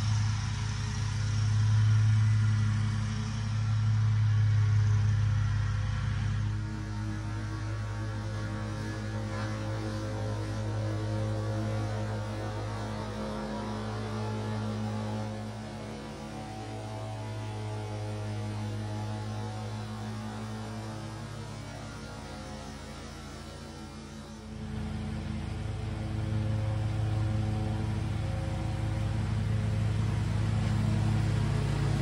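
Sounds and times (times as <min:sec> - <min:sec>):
lawn mower engine running: 0:00.0 - 0:32.0.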